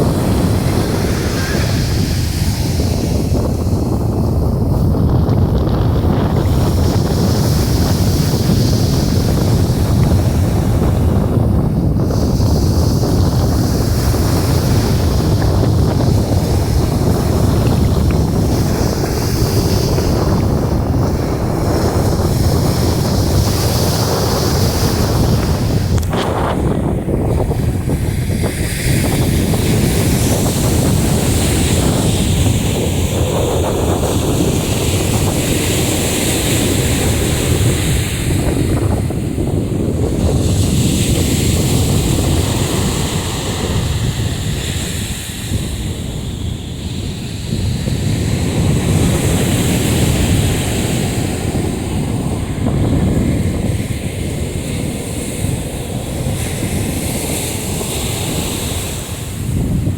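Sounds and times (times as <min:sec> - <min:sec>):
surf breaking on shore: 0:00.0 - 0:59.9
wind buffeting microphone: 0:00.0 - 0:59.9.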